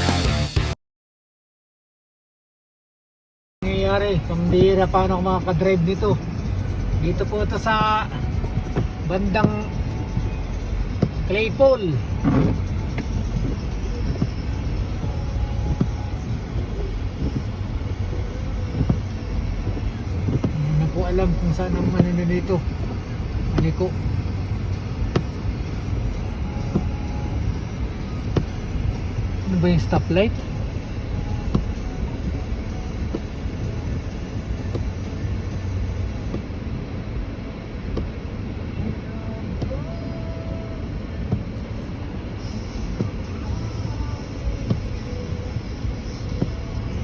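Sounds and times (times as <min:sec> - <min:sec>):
engine and road rumble: 0:00.0 - 0:00.8, 0:03.6 - 0:47.0.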